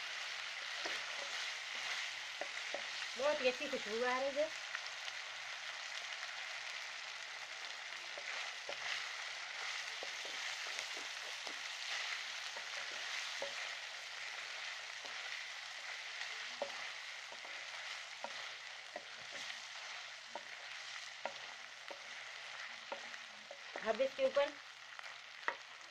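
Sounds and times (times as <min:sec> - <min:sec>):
food sizzling in a pan: 0:00.0 - 0:25.9.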